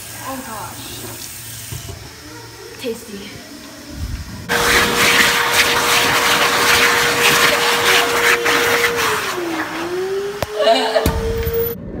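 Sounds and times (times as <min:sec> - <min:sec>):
hand dryer blowing: 0:00.0 - 0:11.8.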